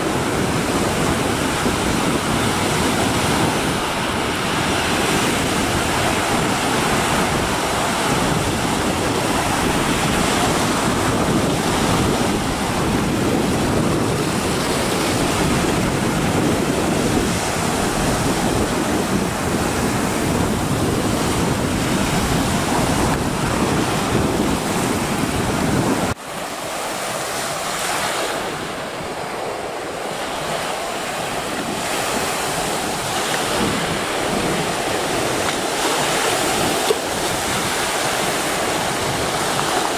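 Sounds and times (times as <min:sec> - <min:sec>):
surf washing against rocks: 0:00.0 - 0:39.9
wind buffeting microphone: 0:00.0 - 0:39.9.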